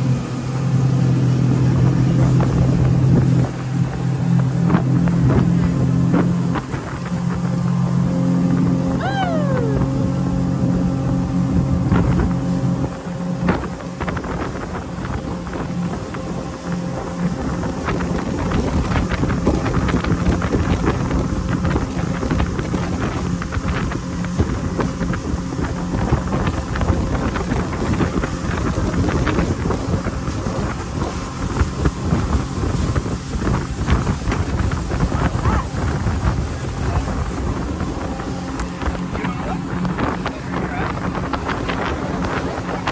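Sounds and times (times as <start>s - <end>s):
boat engine drone: 0.0s - 42.9s
wind buffeting microphone: 0.0s - 42.9s.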